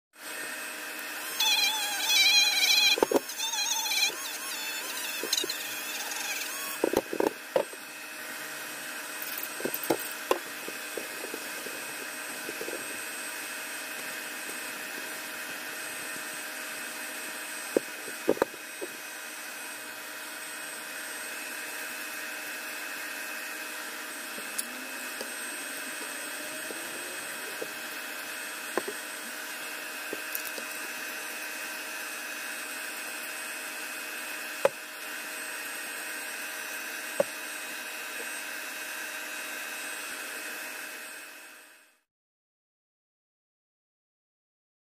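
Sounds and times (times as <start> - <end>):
mechanical hum: 0.2 - 42.1.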